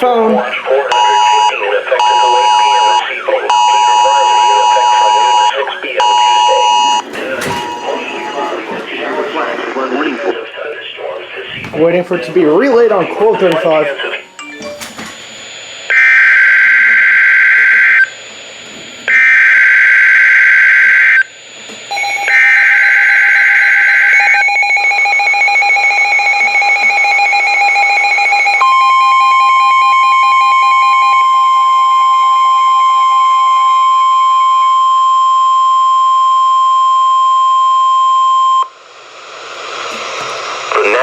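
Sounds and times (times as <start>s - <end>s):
steady single-tone warning alarm: 0.0s - 10.6s, 11.3s - 39.1s.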